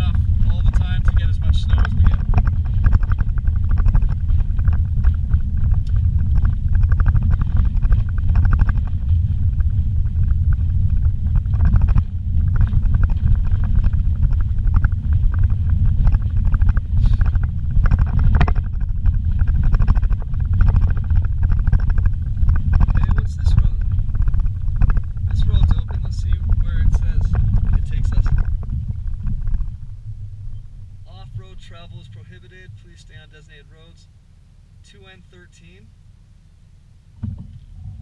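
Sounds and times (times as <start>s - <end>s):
rattles and knocks: 0.0s - 29.9s, 37.2s - 38.0s
vehicle rumble on dirt road: 0.0s - 38.0s.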